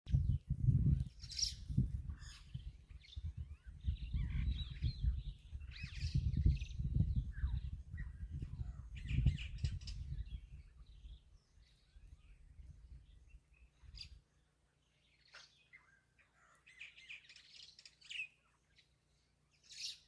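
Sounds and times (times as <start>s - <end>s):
birds chirping and trilling: 0.1s - 20.0s.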